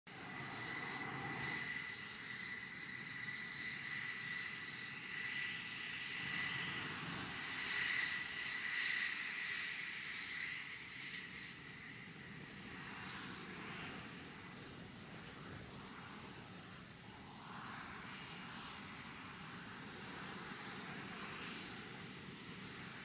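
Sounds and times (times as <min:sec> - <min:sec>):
jet engines whining: 0:00.1 - 0:23.0
rushing noise of passing jets: 0:00.1 - 0:23.0.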